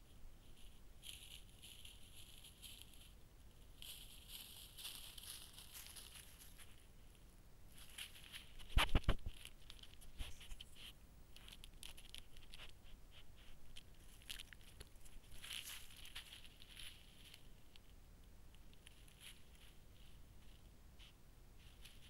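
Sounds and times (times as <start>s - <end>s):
scratching and rustling: 0.0s - 22.0s.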